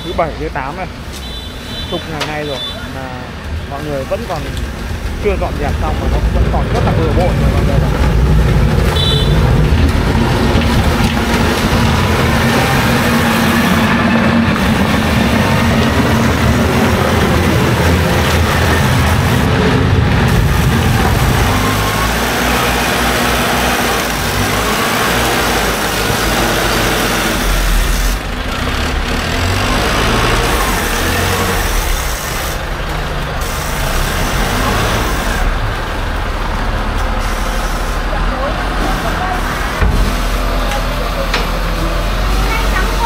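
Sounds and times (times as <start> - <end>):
vehicle engine running: 3.8 - 43.0.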